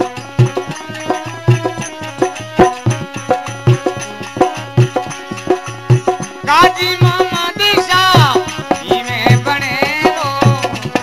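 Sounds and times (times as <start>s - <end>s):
hand drum rhythm: 0.0s - 11.0s
sustained melodic accompaniment: 0.0s - 11.0s.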